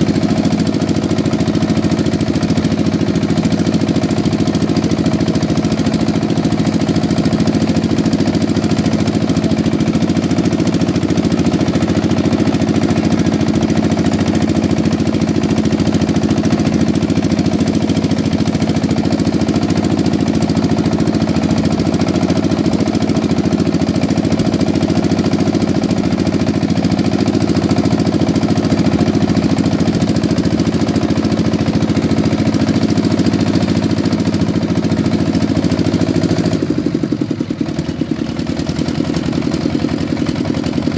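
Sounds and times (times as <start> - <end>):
boat motor chugging: 0.0 - 40.9.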